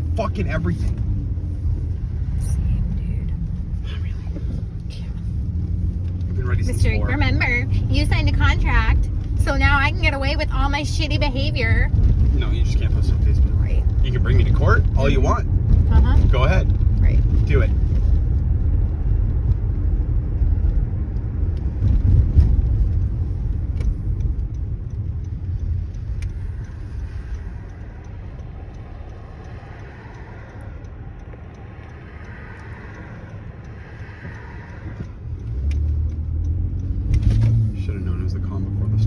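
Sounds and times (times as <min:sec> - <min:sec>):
car cabin rumble: 0:00.0 - 0:39.0.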